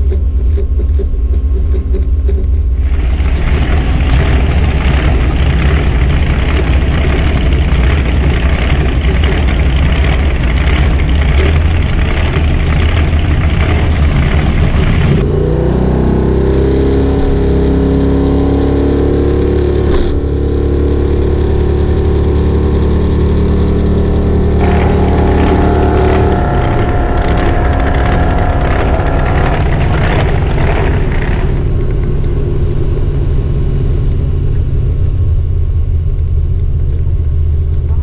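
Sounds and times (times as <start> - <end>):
car engine heard from inside cabin: 0.0 - 15.6, 16.2 - 38.0
bright noisy outdoor engine: 0.0 - 38.0.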